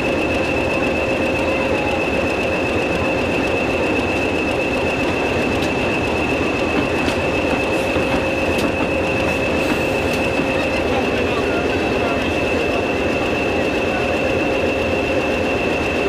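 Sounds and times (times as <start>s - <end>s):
steady high squeal: 0.0s - 16.0s
train wheels rumbling: 0.0s - 16.0s.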